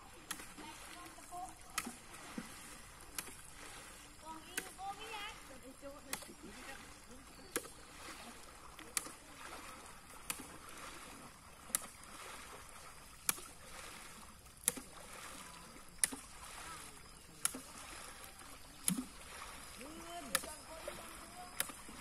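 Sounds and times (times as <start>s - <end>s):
water sloshing and swishing: 0.0s - 22.0s.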